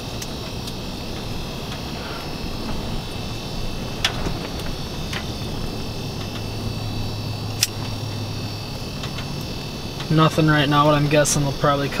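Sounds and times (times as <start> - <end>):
low rumble: 0.0 - 11.8
low hum: 0.0 - 12.0.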